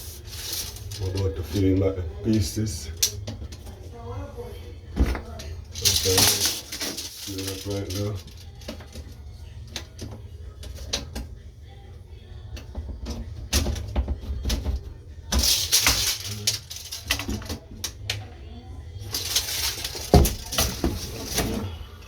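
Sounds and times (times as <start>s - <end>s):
scraping and rustling: 0.0s - 4.0s, 4.8s - 11.8s, 12.5s - 22.0s.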